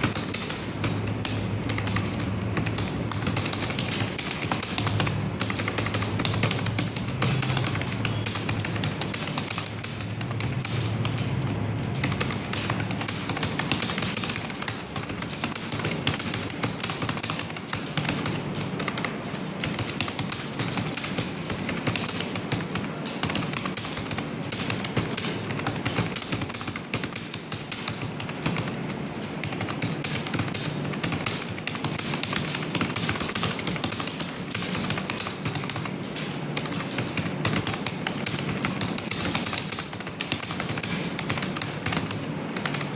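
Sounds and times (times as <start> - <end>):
fast typing on keyboard: 0.0 - 42.9.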